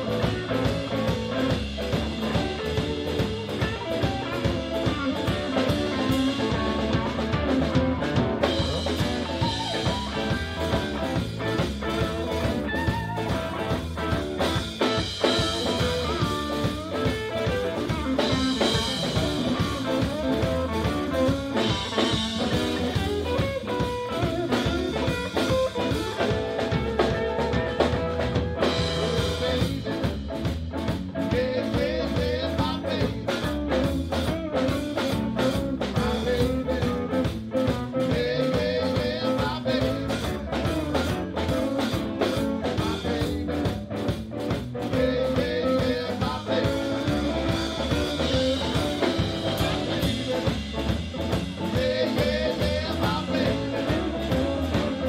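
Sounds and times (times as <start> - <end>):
bass guitar: 0.0 - 55.0
drum kit beat: 0.0 - 55.0
electric guitars: 0.0 - 55.0.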